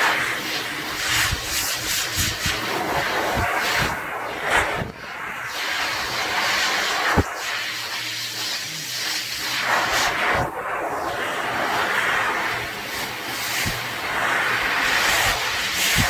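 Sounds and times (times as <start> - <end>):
dog dryer blowing air: 0.0 - 16.0.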